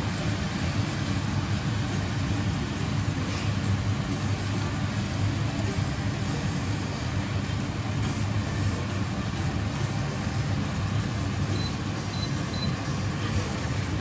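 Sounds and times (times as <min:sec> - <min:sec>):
sauce bubbling and sizzling in pan: 0:00.0 - 0:14.0.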